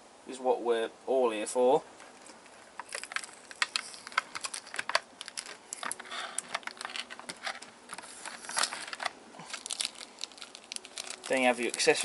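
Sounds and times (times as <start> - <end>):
plastic packaging clicking and crinkling: 2.0 - 12.0.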